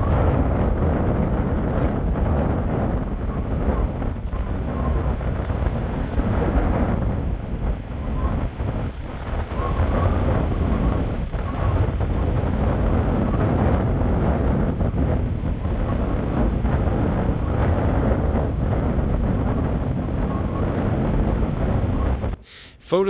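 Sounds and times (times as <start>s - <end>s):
wind buffeting microphone: 0.0s - 22.4s.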